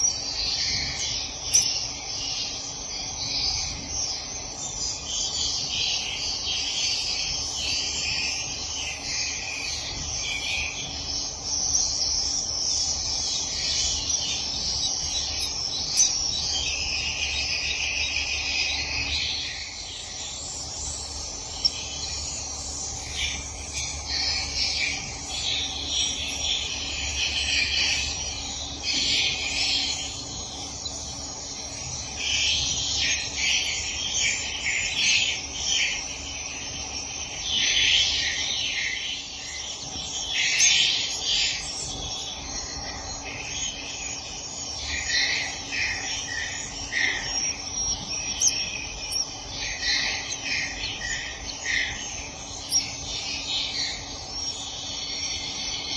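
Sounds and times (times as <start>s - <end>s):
faint low hum: 0.0s - 55.9s
swiftlets twittering: 0.0s - 55.9s.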